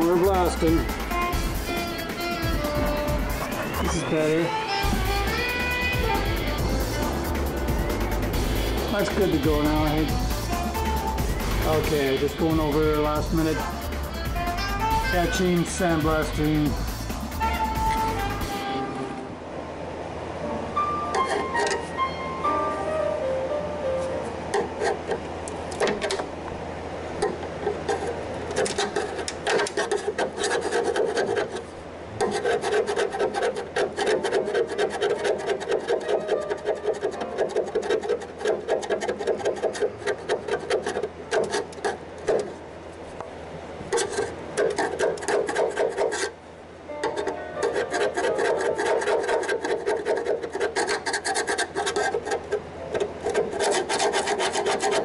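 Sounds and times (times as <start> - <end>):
scraper grating on metal: 0.0 - 18.7, 21.1 - 21.9, 24.5 - 26.2, 27.2 - 42.6, 43.9 - 46.4, 47.0 - 55.0.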